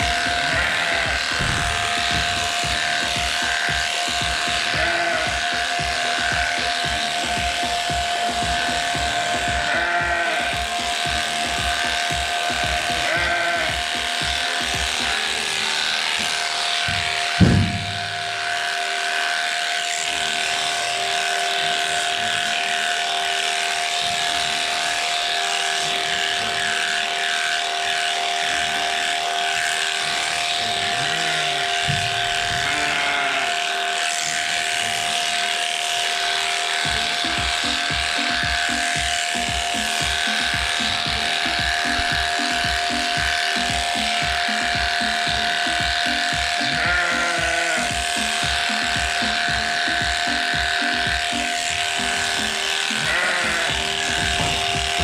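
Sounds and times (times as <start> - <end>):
background music: 0.0 - 55.0
electric shears whining: 0.0 - 55.0.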